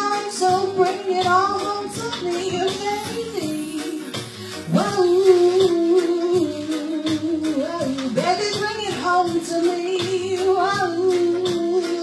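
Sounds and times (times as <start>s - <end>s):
reggae backing track: 0.0s - 12.0s.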